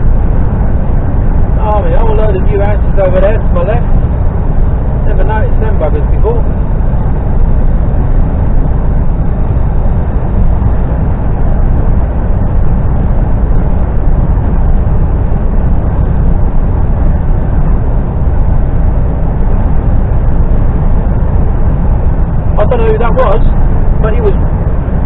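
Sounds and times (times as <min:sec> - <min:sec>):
lorry engine and road rumble: 0:00.0 - 0:25.0.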